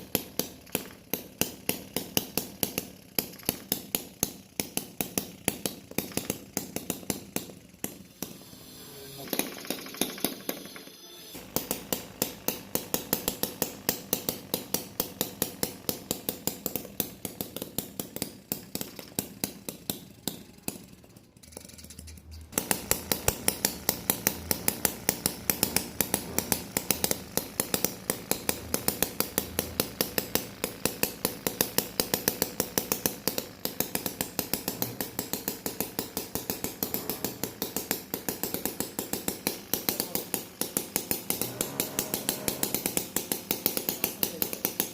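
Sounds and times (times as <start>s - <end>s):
small mechanism clicking: 0.0s - 44.9s.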